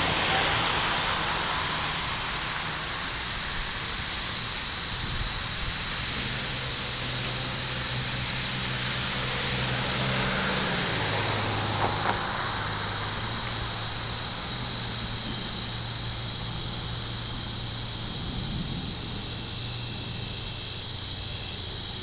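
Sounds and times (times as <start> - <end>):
steady hiss: 0.0 - 22.0
vehicle engine hum passing: 0.0 - 22.0.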